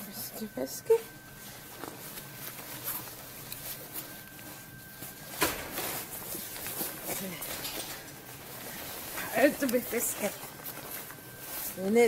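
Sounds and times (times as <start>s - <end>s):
clothing rustling: 0.4s - 12.0s.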